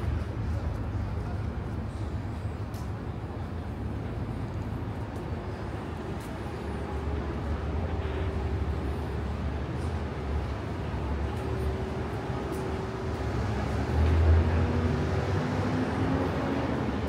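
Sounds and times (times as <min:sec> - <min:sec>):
general street noise: 0:00.0 - 0:17.0
vehicle engine rumble: 0:00.0 - 0:17.0.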